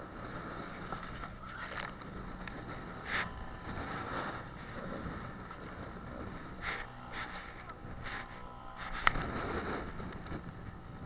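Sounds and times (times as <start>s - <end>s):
water washing against boat: 0.0s - 11.0s
wind buffeting microphone: 0.0s - 11.0s.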